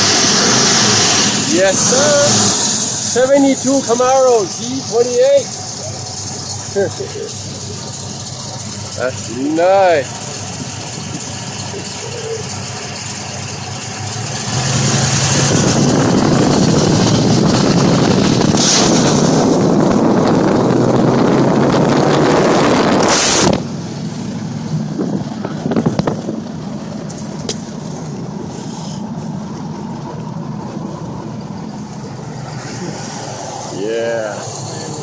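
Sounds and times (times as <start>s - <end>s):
road noise inside moving car: 0.0s - 35.0s
traffic engine and wind rush: 0.0s - 35.0s.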